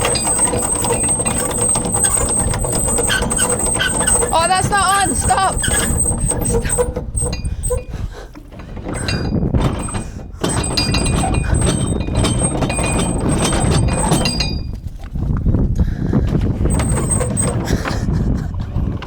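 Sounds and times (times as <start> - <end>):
metal anchor chain rattling: 0.0 - 14.9, 16.7 - 17.8.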